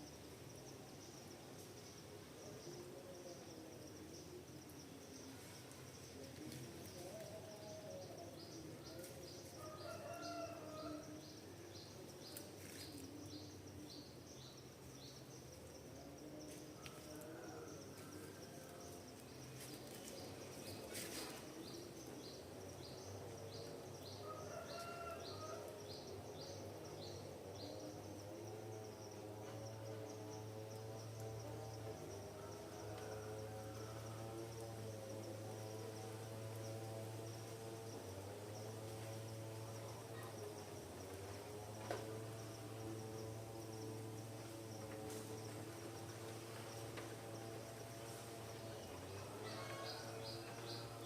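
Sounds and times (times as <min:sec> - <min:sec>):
insect chirping: 0:00.0 - 0:51.0.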